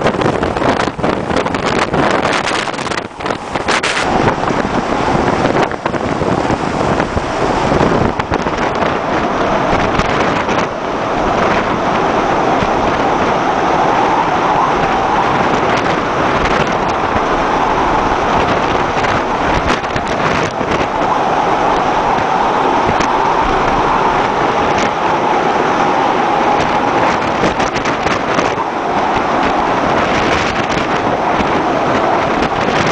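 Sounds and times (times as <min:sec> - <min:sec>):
breaking waves and spray: 0:00.0 - 0:32.9
strong wind rushing: 0:00.0 - 0:32.9
wind gusts buffeting microphone: 0:00.0 - 0:32.9.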